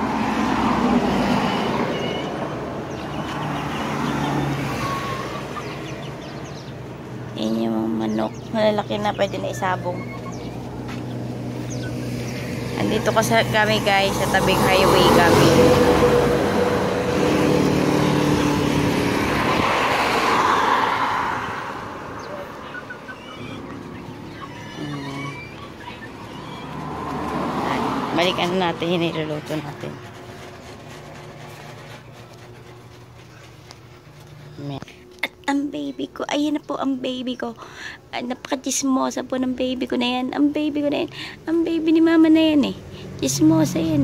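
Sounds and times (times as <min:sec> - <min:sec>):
highway traffic rushing past: 0:00.0 - 0:35.2, 0:39.1 - 0:44.0.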